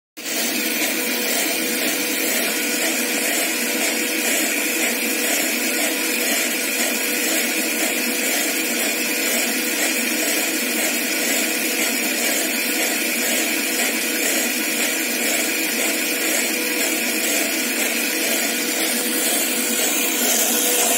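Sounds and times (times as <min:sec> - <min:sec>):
conveyor running: 0:00.2 - 0:20.9.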